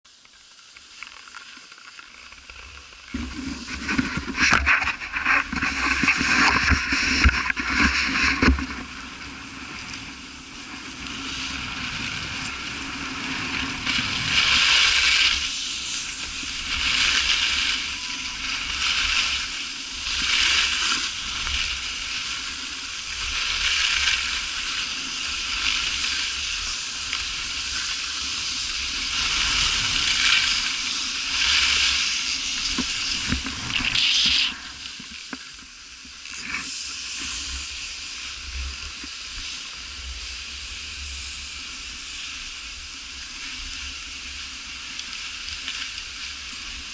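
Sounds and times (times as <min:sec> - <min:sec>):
snowboard edges scraping snow: 0:00.7 - 0:46.9.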